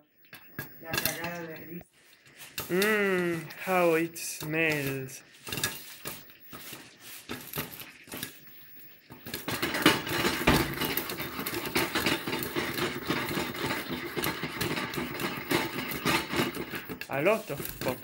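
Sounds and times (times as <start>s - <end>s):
popcorn popping: 0.0s - 1.8s, 2.5s - 18.0s
pan rattling on hob grate: 0.6s - 1.7s, 3.7s - 8.5s, 9.1s - 18.0s.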